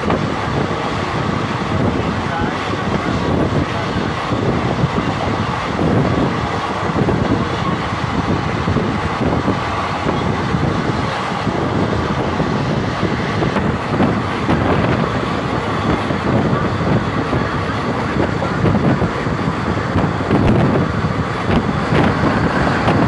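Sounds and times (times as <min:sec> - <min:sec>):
moving vehicle rumble: 0:00.0 - 0:23.0.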